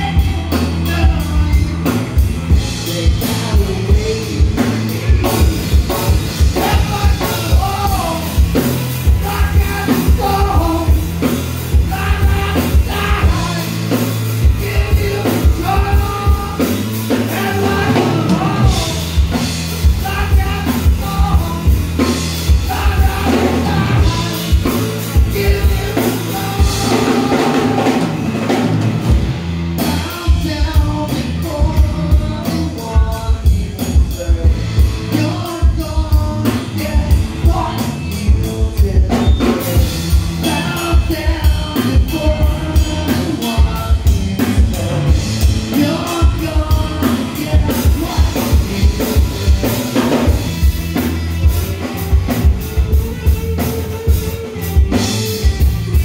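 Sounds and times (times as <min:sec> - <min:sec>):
man singing: 0:00.0 - 0:28.7, 0:29.8 - 0:56.0
drum kit beat: 0:00.0 - 0:56.0
electric bass: 0:00.0 - 0:56.0
electric guitar: 0:00.0 - 0:56.0.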